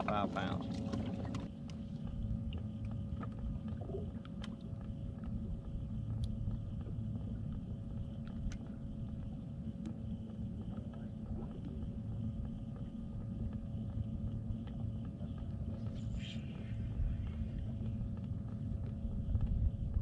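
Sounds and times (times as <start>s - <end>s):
boat engine low rumble: 0.0s - 20.0s
faint steady hum: 0.0s - 20.0s.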